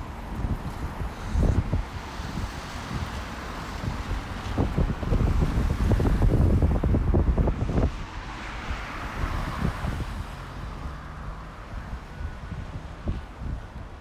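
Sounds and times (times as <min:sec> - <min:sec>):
road traffic: 0:00.0 - 0:14.0
wind buffeting microphone: 0:00.0 - 0:14.0.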